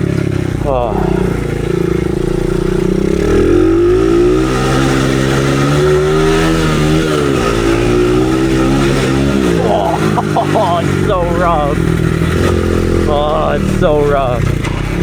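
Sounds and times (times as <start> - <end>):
dirt bike engine accelerating: 0.0 - 15.0.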